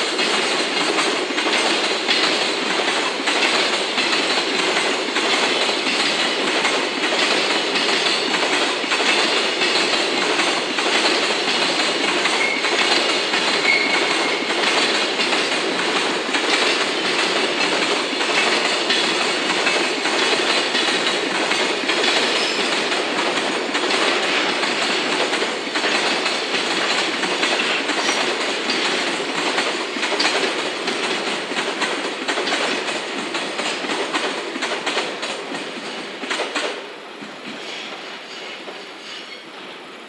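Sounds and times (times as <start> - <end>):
train wheels clicking over rail joints: 0.0 - 39.9
train rolling rumble: 0.0 - 40.0.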